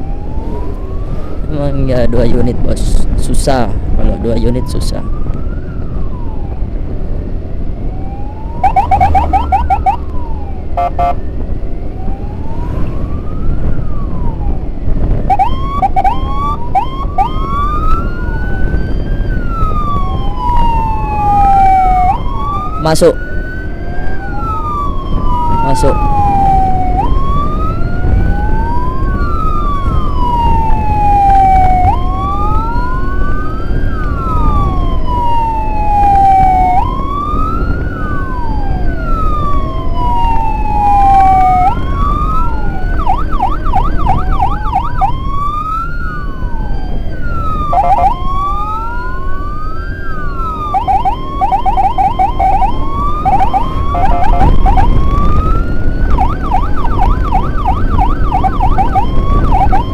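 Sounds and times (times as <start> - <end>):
emergency sirens wailing: 0.0 - 59.9
road and engine rumble: 0.0 - 59.9.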